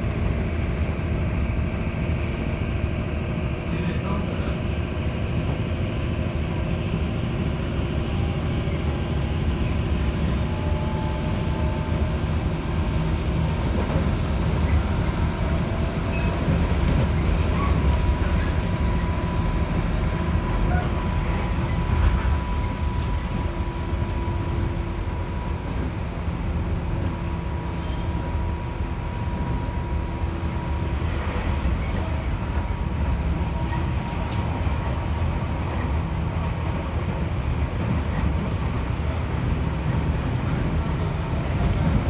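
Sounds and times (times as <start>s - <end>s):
wheels rumbling on rail: 0.0s - 42.0s.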